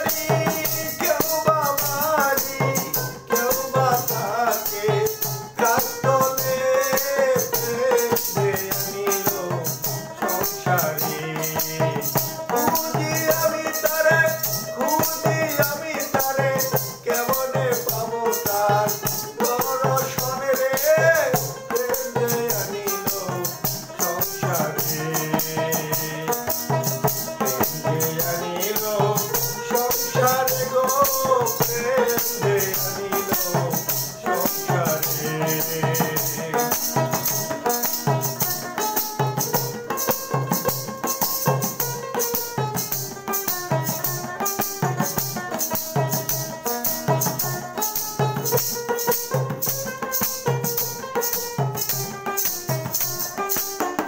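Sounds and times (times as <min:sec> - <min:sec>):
hand drum beaten quickly: 0:00.0 - 0:54.0
man singing: 0:00.0 - 0:54.0.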